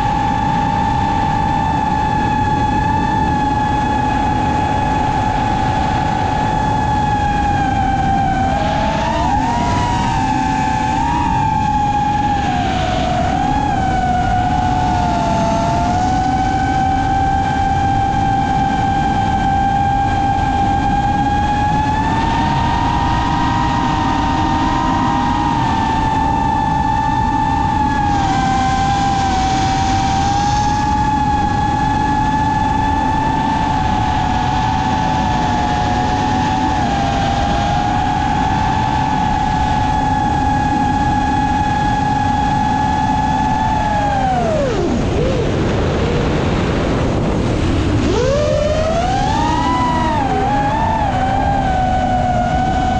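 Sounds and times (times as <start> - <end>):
drone motors whining: 0.0 - 52.9
wind noise: 0.0 - 52.9.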